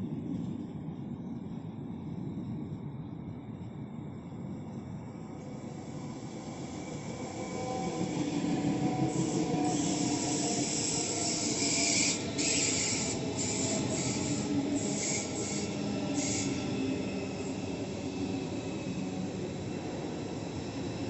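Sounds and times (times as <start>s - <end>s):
hissing rush of passing train: 0.0s - 21.0s
train wheels rumbling on track: 0.0s - 21.0s.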